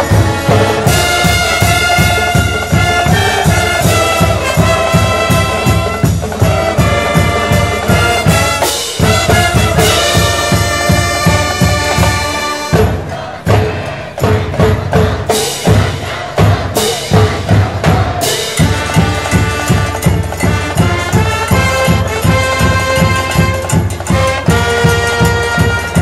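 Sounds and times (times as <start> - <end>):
brass band playing: 0.0 - 26.0
drum beat: 0.0 - 26.0.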